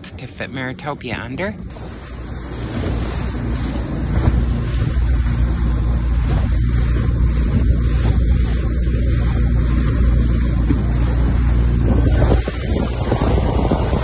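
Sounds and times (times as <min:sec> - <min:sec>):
outboard motor running: 0:00.0 - 0:14.0
water rushing past hull: 0:00.0 - 0:14.0
wind buffeting microphone: 0:00.0 - 0:14.0.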